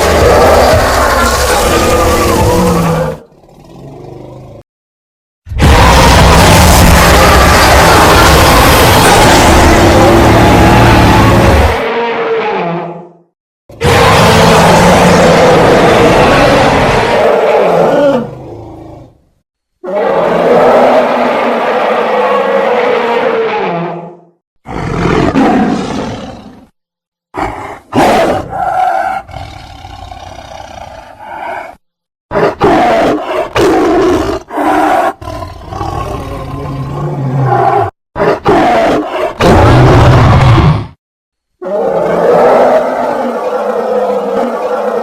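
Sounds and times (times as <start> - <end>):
dinosaur roars and growls: 0.0 - 4.6, 5.5 - 19.2, 19.8 - 26.8, 27.4 - 41.0, 41.6 - 45.0.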